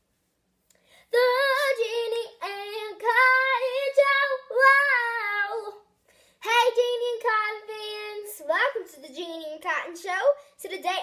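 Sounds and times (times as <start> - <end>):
girl singing unaccompanied: 1.0 - 11.0.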